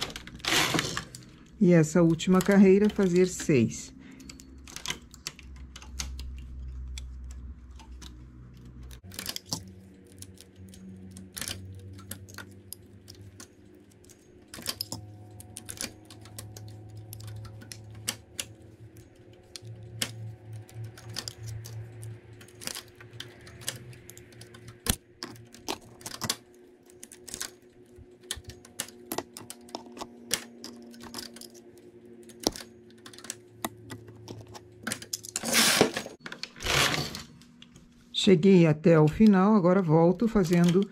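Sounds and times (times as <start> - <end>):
knitting machine needles clicking: 0.0 - 37.0, 38.9 - 40.9.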